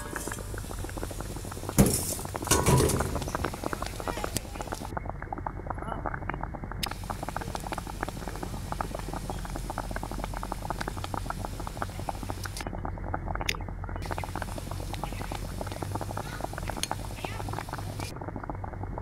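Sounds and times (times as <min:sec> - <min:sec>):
low hum: 0:00.0 - 0:19.0
water boiling in a wok: 0:00.0 - 0:19.0.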